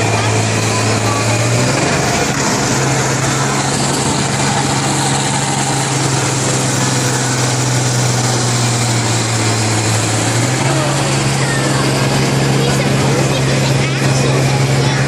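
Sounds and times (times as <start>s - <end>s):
combine harvester engines running: 0.0s - 15.0s.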